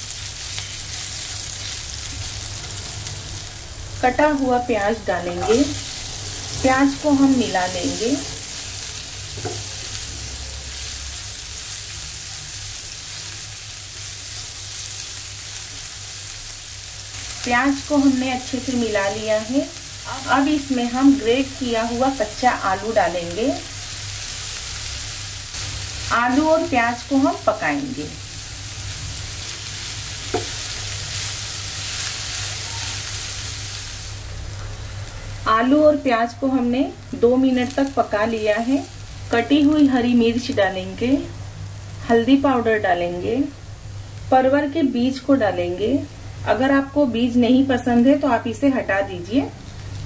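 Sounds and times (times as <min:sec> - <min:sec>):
onion sizzling in hot oil: 0:00.0 - 0:50.0.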